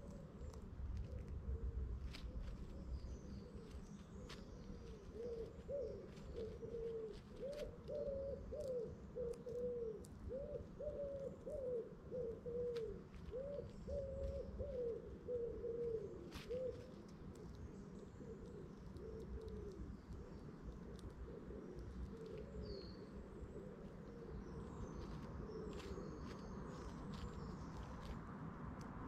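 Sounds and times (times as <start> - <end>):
pigeon cooing: 0.0 - 27.3
low background rumble: 0.0 - 29.0.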